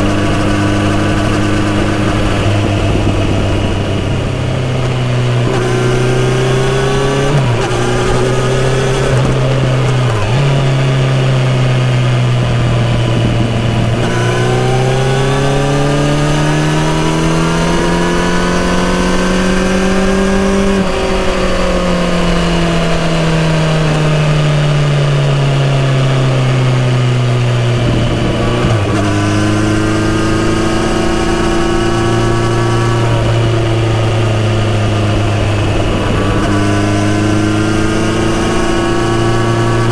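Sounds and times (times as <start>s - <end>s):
motorcycle engine running: 0.0s - 39.9s
motorcycle gear change: 0.0s - 39.9s.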